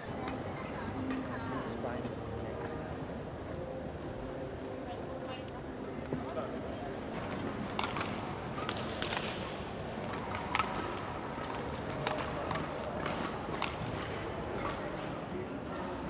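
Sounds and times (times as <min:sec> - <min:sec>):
large hall background noise: 0:00.0 - 0:16.0.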